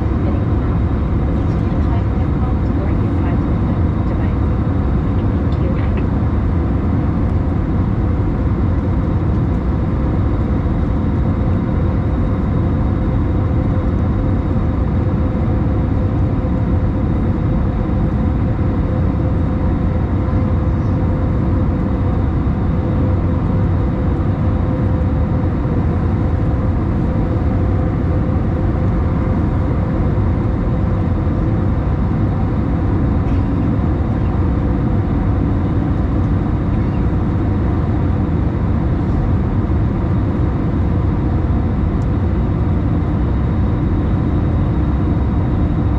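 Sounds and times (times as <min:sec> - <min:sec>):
aircraft engine and airflow roar: 0:00.0 - 0:45.9
steady cabin hum: 0:00.0 - 0:45.9.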